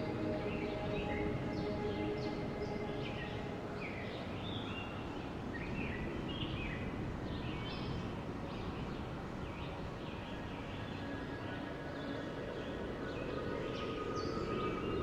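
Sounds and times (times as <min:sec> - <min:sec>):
steady wind: 0:00.0 - 0:15.0.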